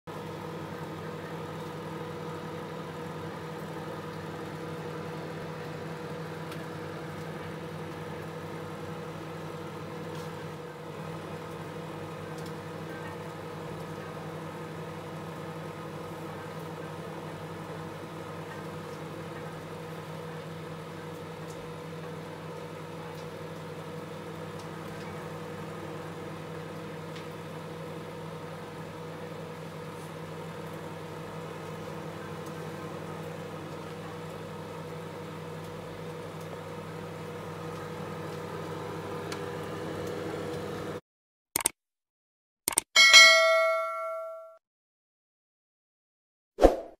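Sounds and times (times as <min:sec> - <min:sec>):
microwave oven hum and fan: 0:00.1 - 0:41.0, 0:43.0 - 0:44.6.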